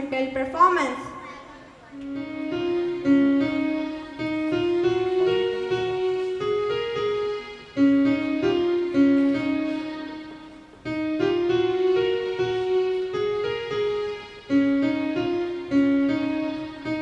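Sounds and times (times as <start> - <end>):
electronic keyboard melody: 2.0 - 17.0.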